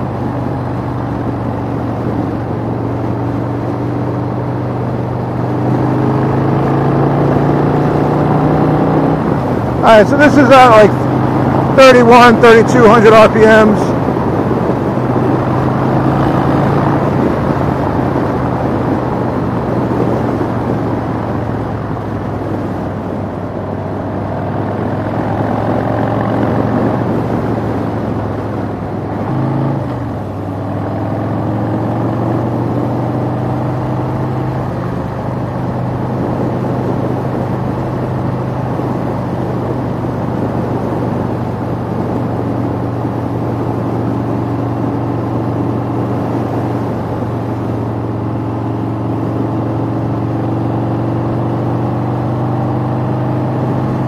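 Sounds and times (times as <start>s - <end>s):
motorcycle engine cruising: 0.0s - 54.0s
road noise: 0.0s - 54.0s
wind noise: 0.0s - 54.0s.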